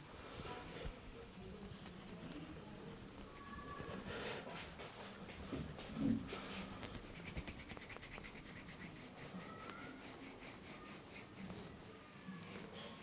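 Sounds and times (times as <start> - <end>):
hands rubbing over skin: 0.0 - 11.9.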